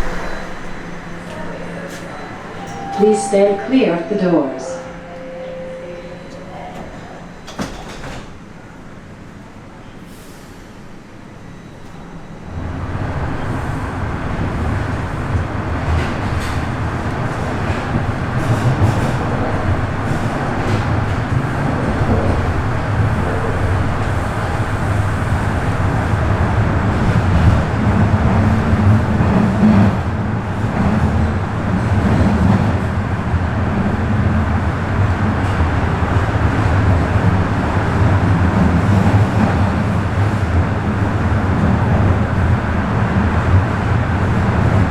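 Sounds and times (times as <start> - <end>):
subway train pulling away: 0.0 - 44.9.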